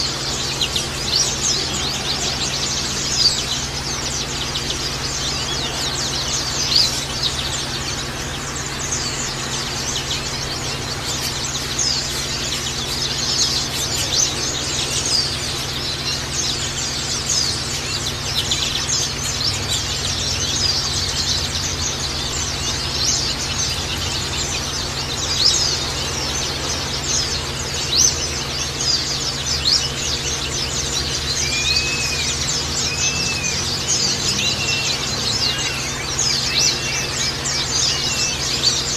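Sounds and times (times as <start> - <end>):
birds chirping and twittering: 0.0 - 38.9
faint steady hum: 0.0 - 38.9
low arched whistles: 0.0 - 38.9.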